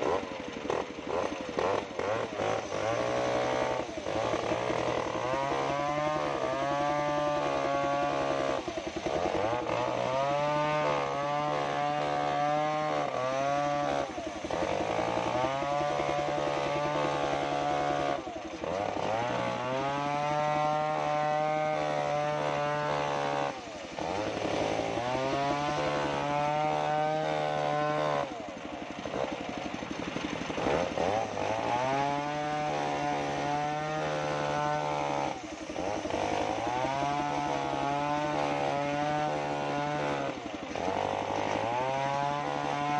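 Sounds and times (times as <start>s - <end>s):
circular saw whine cutting wood: 0.0s - 42.9s.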